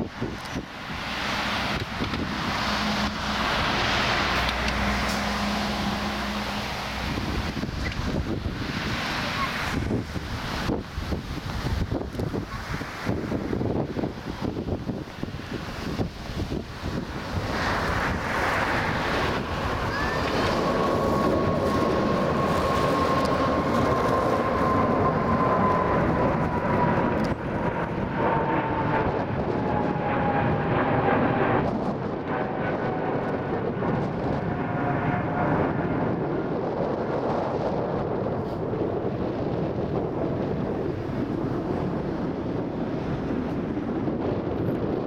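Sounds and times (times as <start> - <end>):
jet engines roaring with whine: 0.0 - 45.0
wind buffeting microphone: 0.0 - 45.0.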